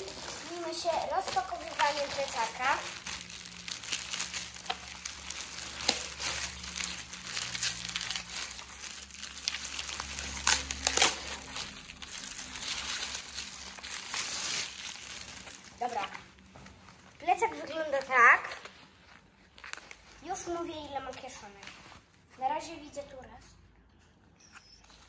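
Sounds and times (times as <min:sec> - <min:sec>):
plastic bag crinkling: 0:00.0 - 0:21.9.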